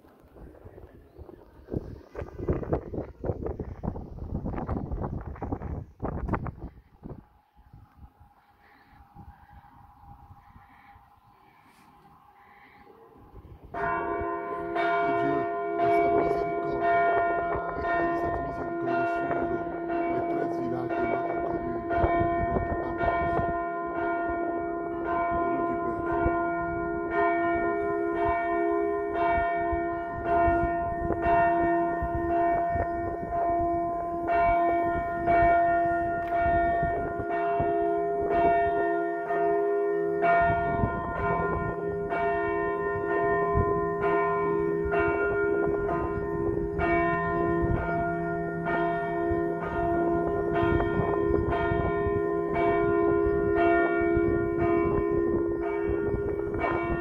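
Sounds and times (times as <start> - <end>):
church bells ringing: 8.5 - 57.0.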